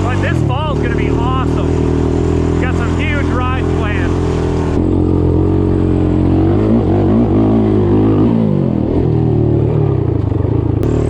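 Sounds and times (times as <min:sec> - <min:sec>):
single-cylinder engine revving: 0:00.0 - 0:11.0.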